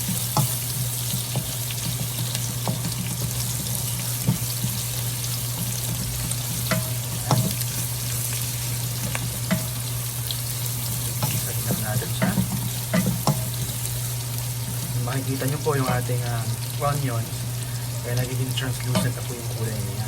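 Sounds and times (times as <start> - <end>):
food sizzling in hot oil: 0.0 - 20.0
low steady hum: 0.0 - 20.0.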